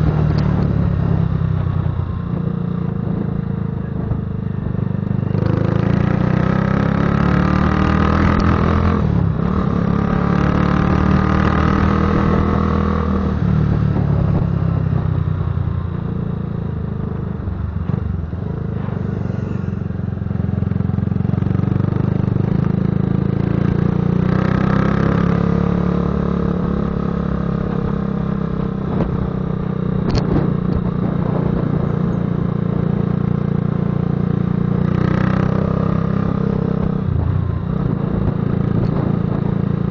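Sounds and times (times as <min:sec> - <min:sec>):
motorcycle deep rumbling exhaust: 0:00.0 - 0:39.9.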